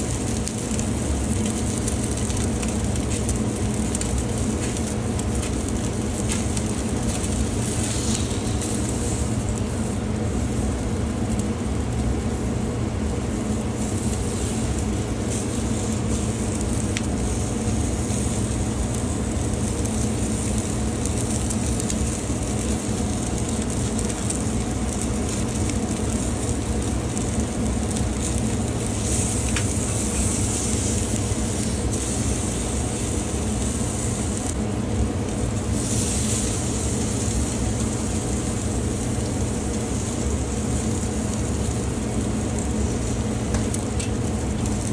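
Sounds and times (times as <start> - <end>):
steak sizzling on a grill: 0.0 - 44.9.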